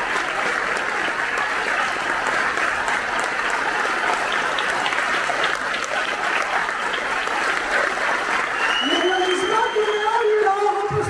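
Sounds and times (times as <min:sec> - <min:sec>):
large audience applauding: 0:00.0 - 0:11.0.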